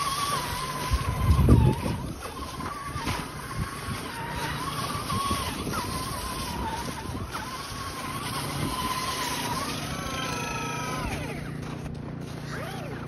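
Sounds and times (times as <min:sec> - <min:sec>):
toy truck motor whining: 0:00.0 - 0:13.0.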